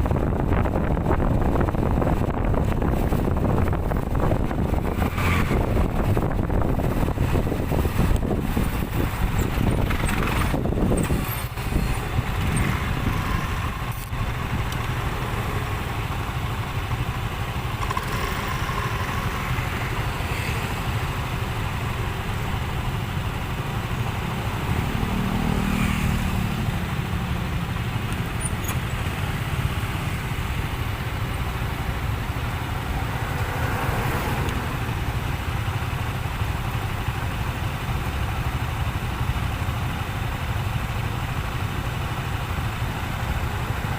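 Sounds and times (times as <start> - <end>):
motorcycles and cars passing: 0.0 - 43.9.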